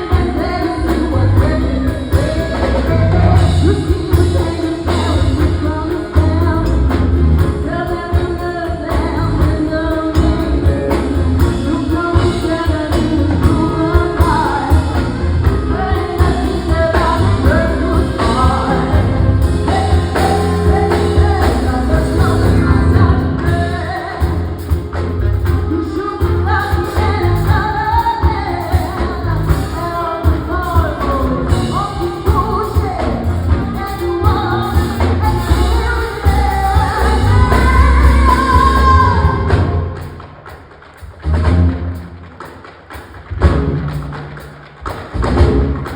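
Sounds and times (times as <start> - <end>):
person singing: 0.0 - 40.0
live band playing upbeat song: 0.0 - 45.9.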